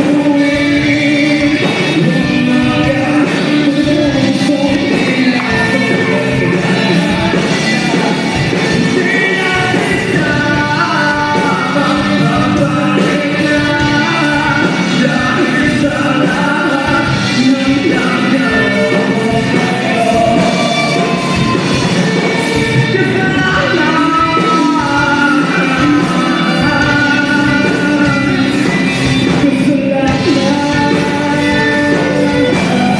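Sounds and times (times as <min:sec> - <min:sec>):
live rock band playing: 0:00.0 - 0:32.9.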